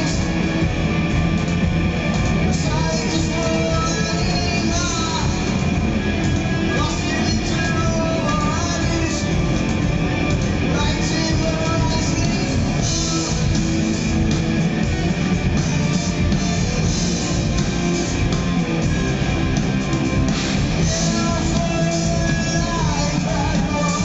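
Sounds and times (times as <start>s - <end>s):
drum kit: 0.0s - 24.0s
electric bass: 0.0s - 24.0s
electric guitar: 0.0s - 24.0s.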